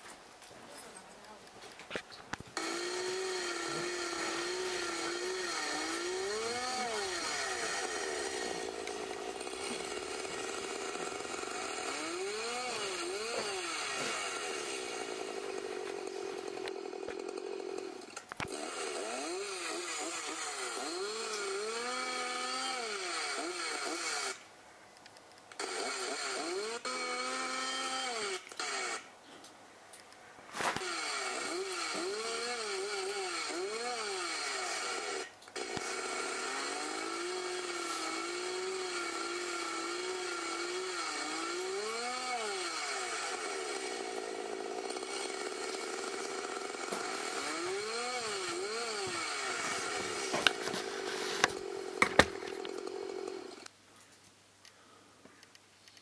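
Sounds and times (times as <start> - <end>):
chainsaw idling and revving: 2.6 - 24.4, 25.6 - 29.1, 30.6 - 53.7.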